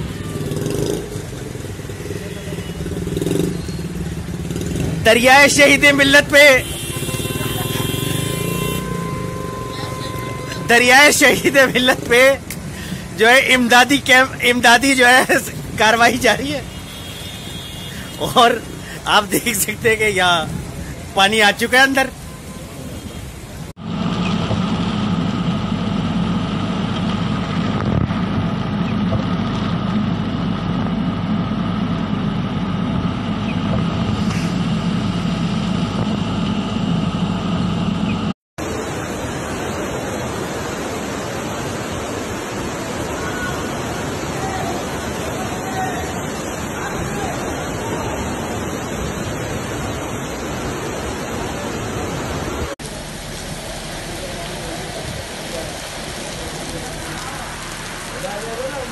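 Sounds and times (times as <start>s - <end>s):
hissy rain: 0.0s - 36.7s, 38.6s - 58.9s
heavy rain and wind: 0.0s - 58.9s
vehicle engine and road noise: 0.0s - 58.9s.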